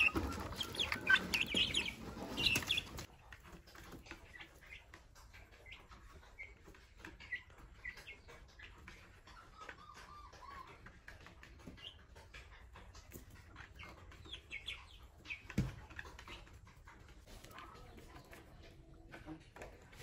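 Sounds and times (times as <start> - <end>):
chicks chirping and clucking: 0.0 - 20.0.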